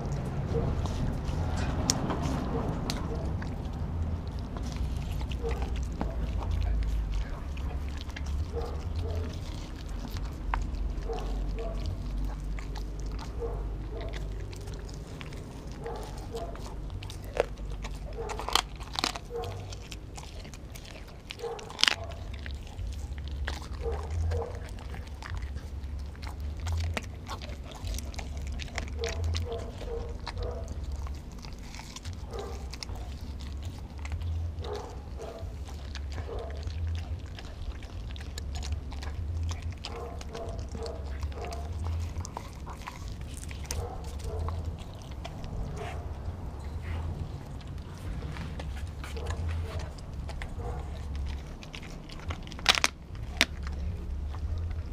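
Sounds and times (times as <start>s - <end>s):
dog chewing meat on bone: 0.0s - 54.9s
steady low hum: 0.0s - 54.9s.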